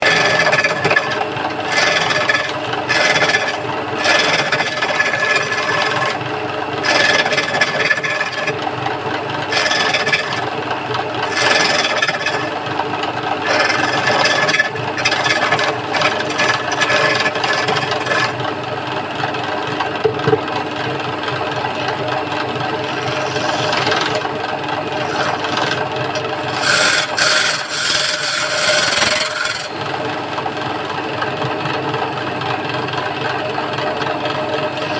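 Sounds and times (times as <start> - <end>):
chisel scraping spinning wood: 0.0 - 34.9
wood lathe running: 0.0 - 34.9.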